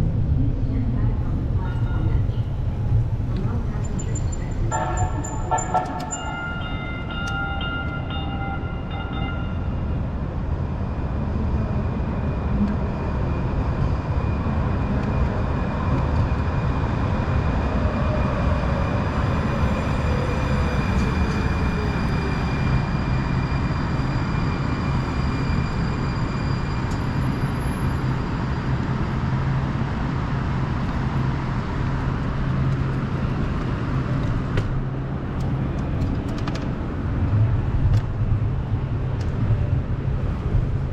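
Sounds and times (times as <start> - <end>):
city street vehicle rumble: 0.0 - 40.9.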